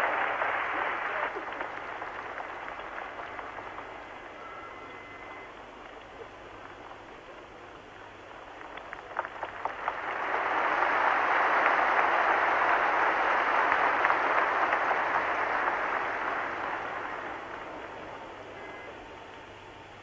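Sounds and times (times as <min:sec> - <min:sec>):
arena crowd applauding: 0:00.0 - 0:06.4, 0:08.0 - 0:20.0.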